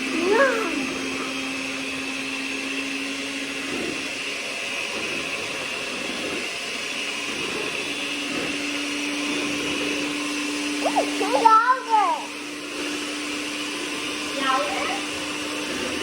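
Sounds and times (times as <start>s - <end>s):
electric mixer whirring: 0.0s - 16.0s.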